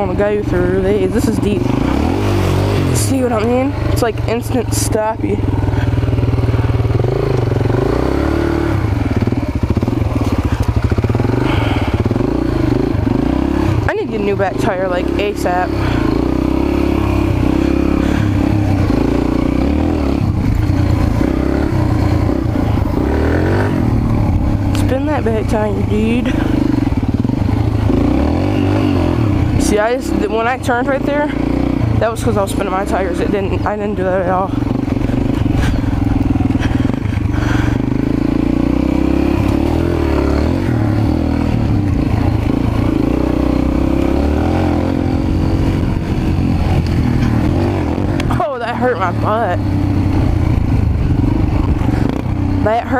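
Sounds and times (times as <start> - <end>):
mini bike engine revving: 0.0 - 52.9.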